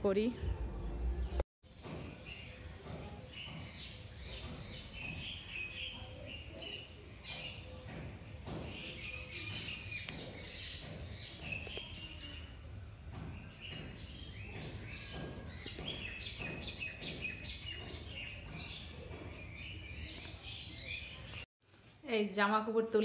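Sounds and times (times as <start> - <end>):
small birds chirping: 1.2 - 21.5.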